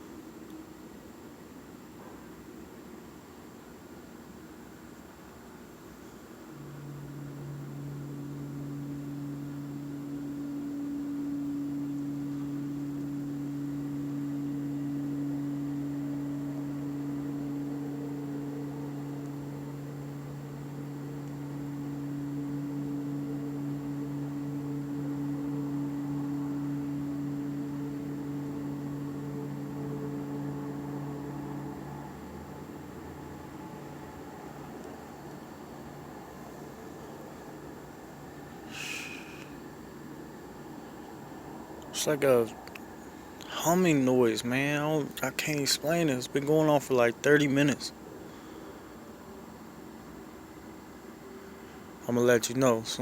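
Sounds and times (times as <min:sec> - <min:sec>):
low humming drone: 0:05.9 - 0:53.0.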